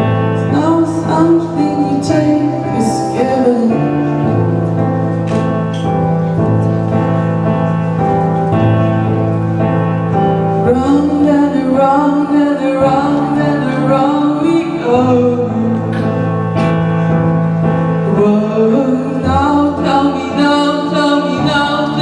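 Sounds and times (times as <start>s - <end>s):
piano accompaniment: 0.0s - 22.0s.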